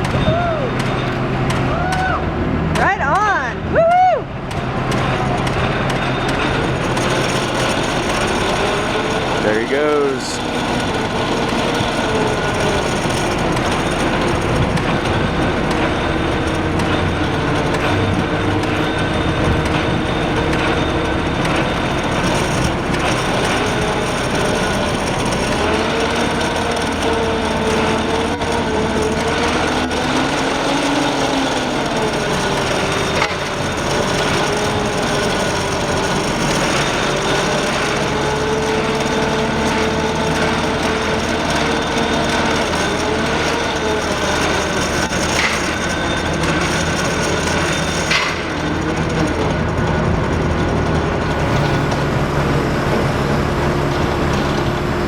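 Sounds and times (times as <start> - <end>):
motor whining: 0.0 - 55.0.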